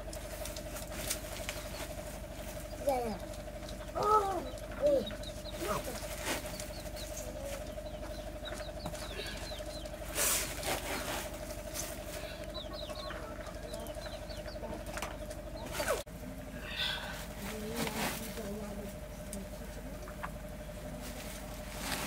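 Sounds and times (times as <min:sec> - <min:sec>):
birds chirping: 0:00.0 - 0:22.0
steady hum: 0:00.0 - 0:22.0.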